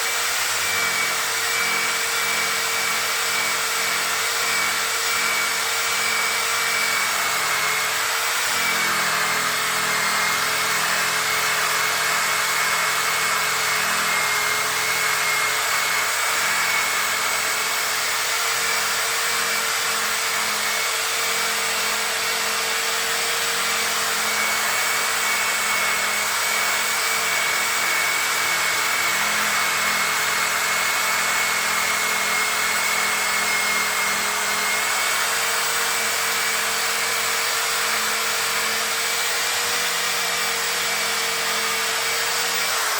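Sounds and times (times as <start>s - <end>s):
power tool polishing pad whine: 0.0s - 42.9s.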